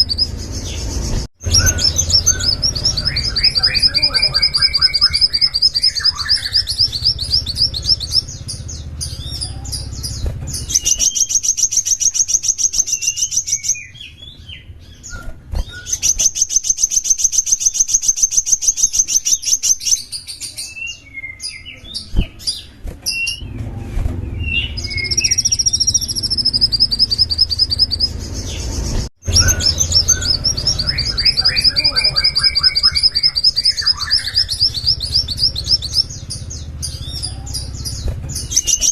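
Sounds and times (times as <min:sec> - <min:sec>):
songbird high-pitched trills: 0:00.0 - 0:22.1, 0:24.4 - 0:38.9.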